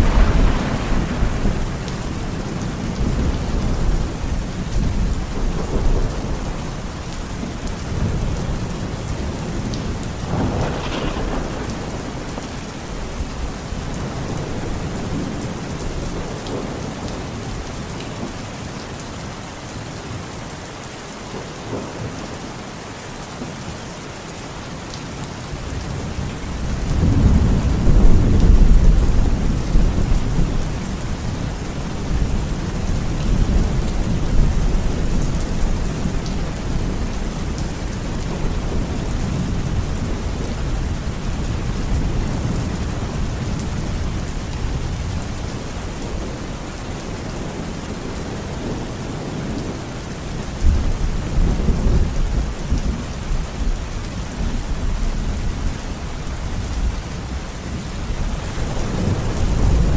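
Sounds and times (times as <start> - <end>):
low rolling thunder: 0.0 - 18.4, 25.8 - 55.6, 56.4 - 59.9
steady rain: 0.0 - 59.9.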